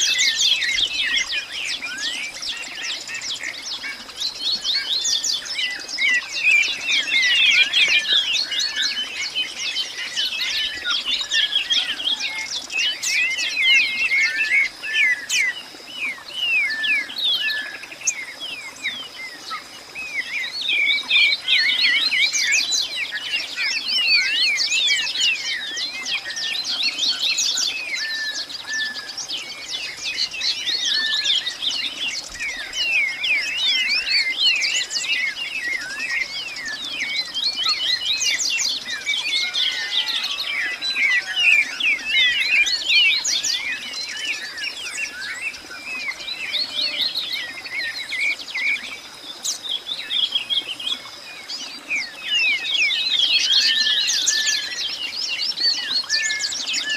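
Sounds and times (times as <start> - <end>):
birds chirping in chorus: 0.0 - 56.9.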